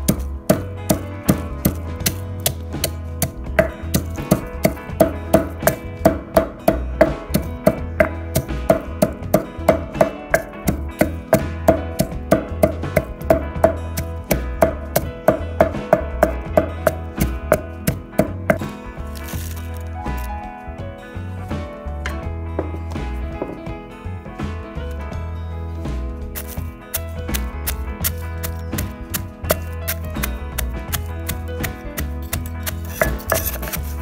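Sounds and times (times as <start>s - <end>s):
pestle pounding in a mortar: 0.0s - 19.6s, 26.4s - 34.0s
background music: 0.0s - 34.0s.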